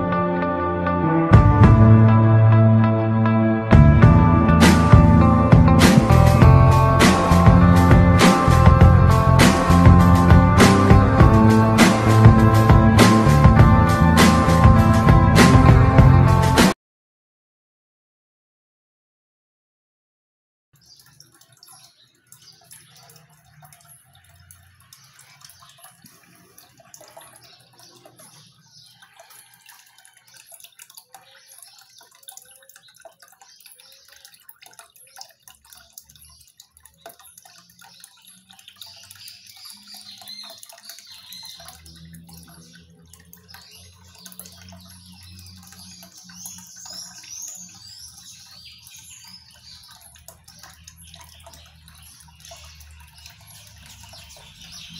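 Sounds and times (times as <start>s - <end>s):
fountain water splashing: 4.4s - 16.7s, 20.8s - 54.9s.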